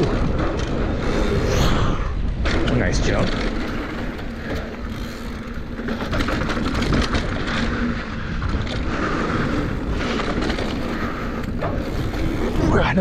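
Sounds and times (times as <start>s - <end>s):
bike rattling and clicking: 0.0s - 13.0s
bike tyres rolling over dirt: 0.0s - 13.0s
wind rumbling on microphone: 0.0s - 13.0s.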